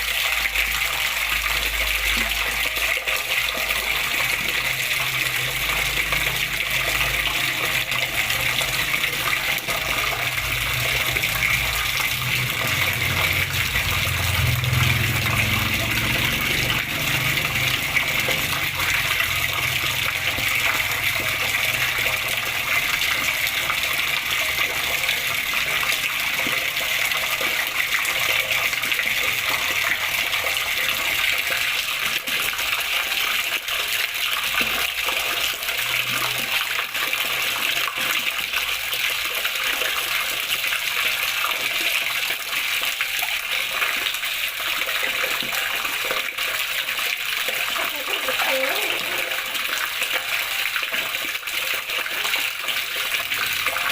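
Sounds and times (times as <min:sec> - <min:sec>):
running water splashing: 0:00.0 - 0:53.9.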